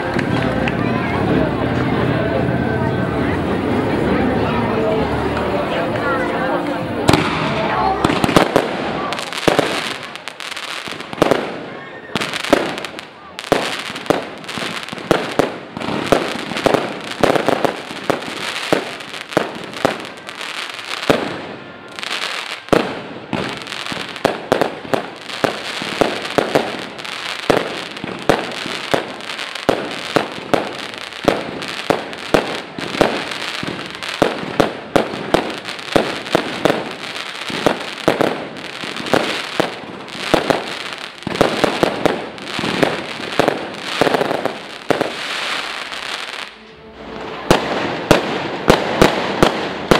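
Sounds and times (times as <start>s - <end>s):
fireworks crackling: 0.0s - 49.9s
fireworks bangs: 5.2s - 49.9s.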